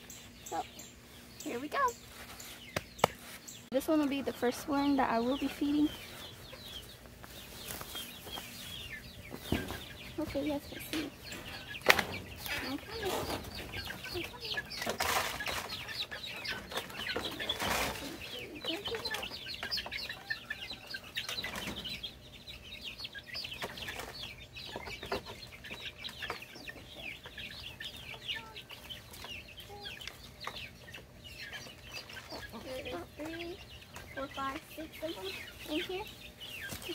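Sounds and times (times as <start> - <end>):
chickens clucking and peeping: 0.0 - 36.9.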